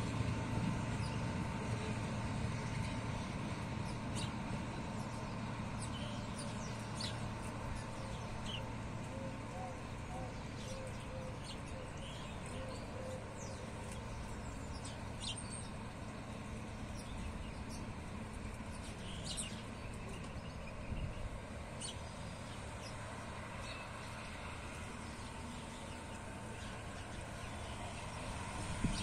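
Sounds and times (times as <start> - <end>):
distant locomotive rumble: 0.0 - 29.0
birds chirping: 0.9 - 29.0.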